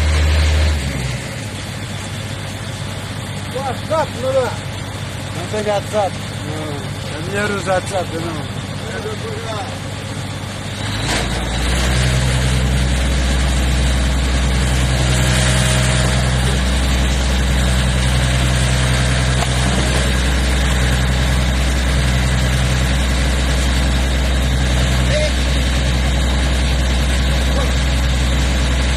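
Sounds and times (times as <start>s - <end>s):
boat engine drone: 0.0s - 28.9s.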